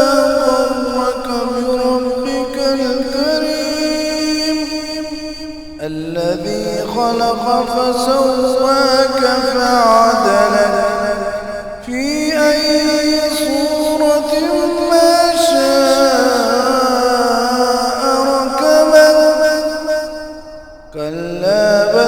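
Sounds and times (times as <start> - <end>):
solo voice reciting melodically: 0.0 - 22.0.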